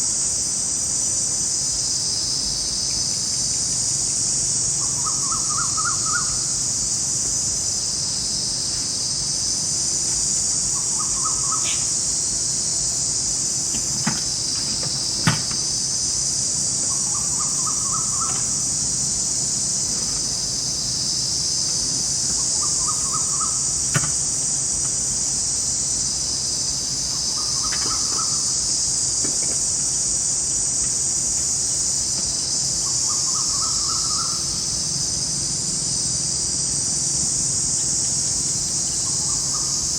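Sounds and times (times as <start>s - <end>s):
insects shrilling: 0.0s - 39.9s.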